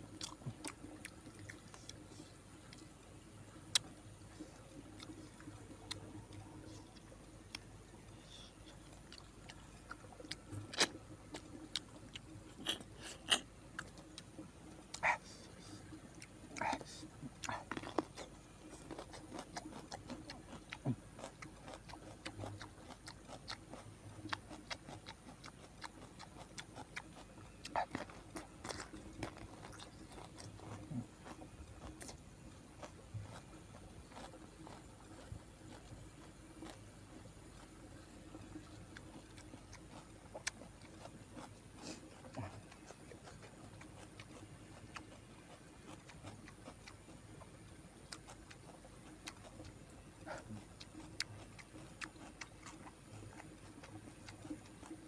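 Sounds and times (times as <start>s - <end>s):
person chewing with wet mouth smacks: 0.0s - 55.0s.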